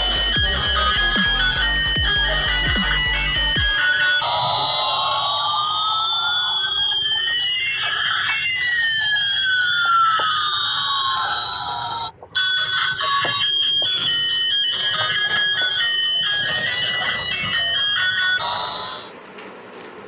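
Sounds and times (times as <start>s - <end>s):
toy electronic tune: 0.0s - 19.2s
toy plane jet engine effect: 0.0s - 19.2s.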